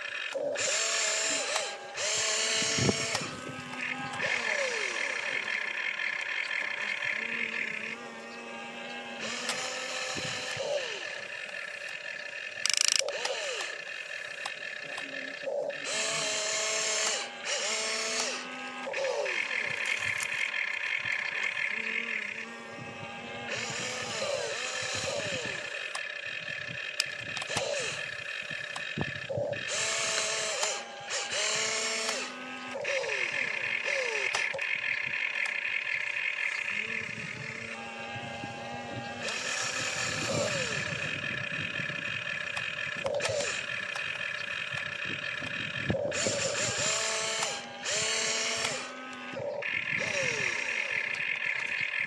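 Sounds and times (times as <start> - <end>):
loud buzzing burst: 0.0 - 52.0
small electric motors whining: 0.0 - 52.0.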